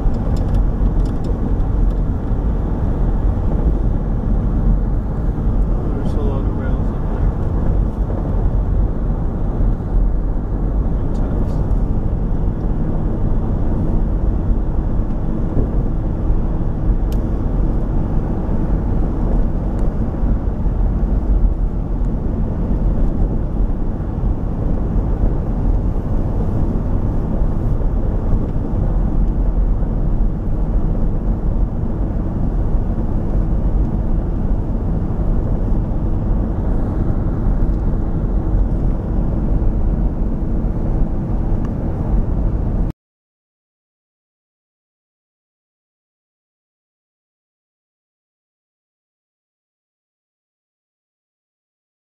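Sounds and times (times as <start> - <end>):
vehicle interior rumble: 0.0 - 42.9.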